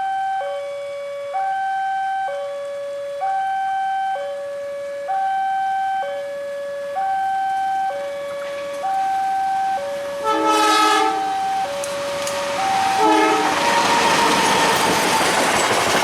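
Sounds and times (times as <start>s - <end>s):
level crossing alarm two tones: 0.0s - 14.7s.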